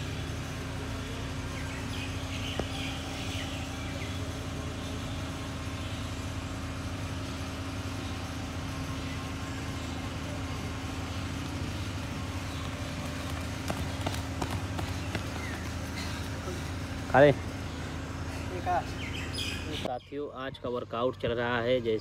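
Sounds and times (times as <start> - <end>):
engine-like drone: 0.0 - 22.0
low mechanical hum: 0.0 - 22.0
outdoor background noise: 0.0 - 22.0.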